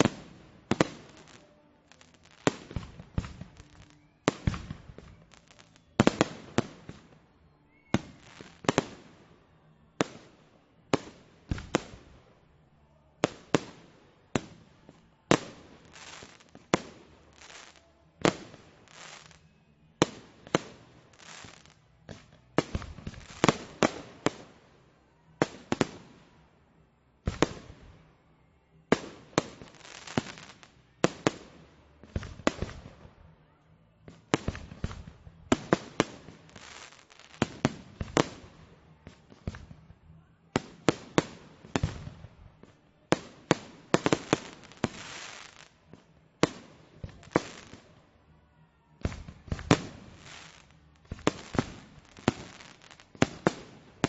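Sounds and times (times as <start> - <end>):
fireworks bangs with echo: 0.0 - 9.3, 9.9 - 12.4, 13.2 - 24.7, 27.2 - 28.0, 28.9 - 33.2, 34.1 - 48.0, 49.0 - 54.0.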